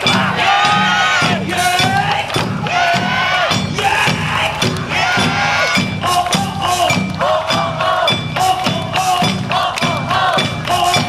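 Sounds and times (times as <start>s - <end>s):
people shouting rhythmic calls: 0.0s - 11.0s
sharp percussion strikes: 0.0s - 11.0s
taiko drums beating: 0.0s - 11.0s.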